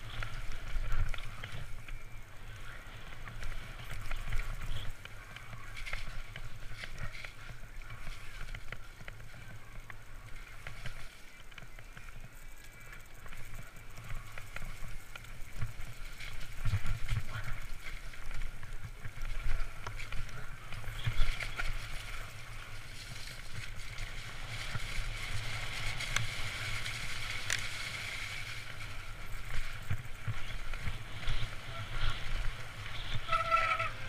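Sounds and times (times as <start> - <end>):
bike rattling over bumps: 0.0 - 34.0
tyres on dirt and leaves: 0.0 - 34.0
wind rumble: 0.0 - 34.0.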